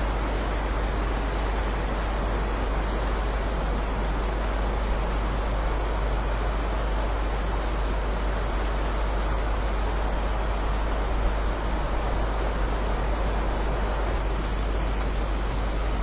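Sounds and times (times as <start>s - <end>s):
heavy rain hiss: 0.0s - 16.0s.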